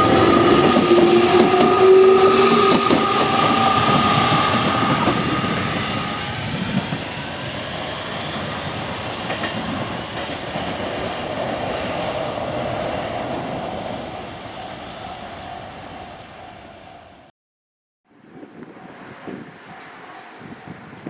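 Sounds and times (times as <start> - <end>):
electric train motors whining: 0.0 - 17.3.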